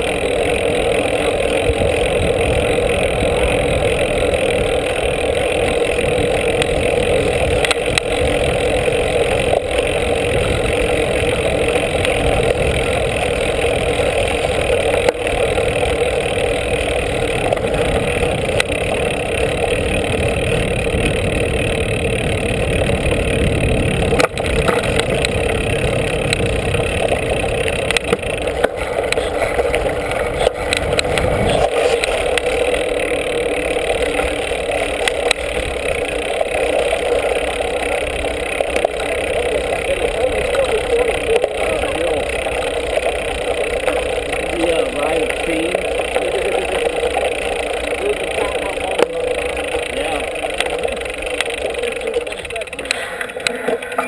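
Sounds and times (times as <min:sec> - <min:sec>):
bike tyre rumbling over ground: 0:00.0 - 0:54.0.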